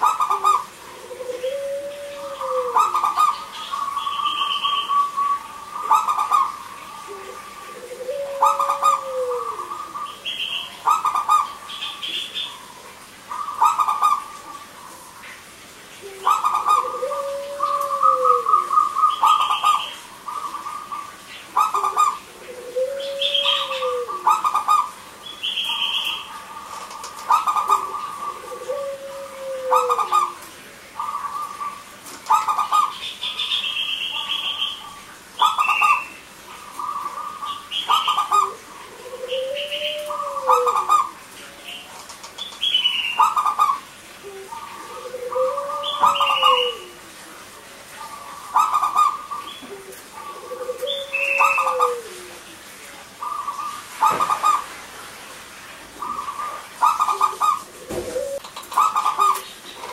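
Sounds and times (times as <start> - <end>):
doves cooing: 0.0 - 15.3, 15.9 - 55.1, 55.9 - 59.9.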